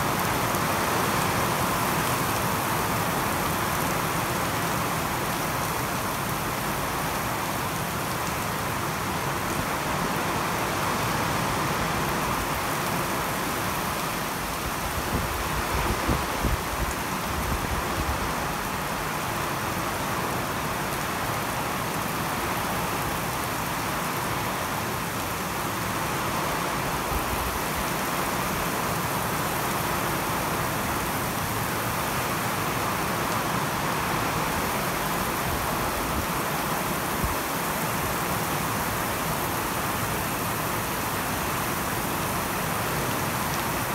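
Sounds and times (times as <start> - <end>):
rain on pavement and roofs: 0.0 - 43.9.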